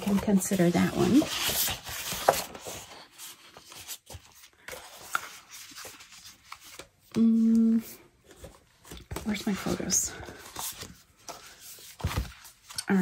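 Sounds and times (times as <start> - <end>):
paper sheets rustling: 0.0 - 13.0.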